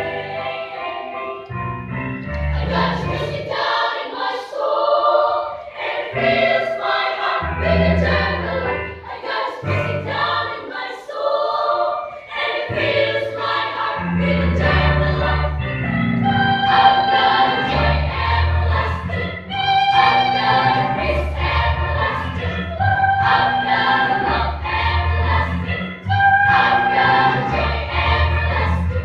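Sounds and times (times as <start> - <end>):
children's choir singing: 0.0 - 1.5, 2.4 - 29.0.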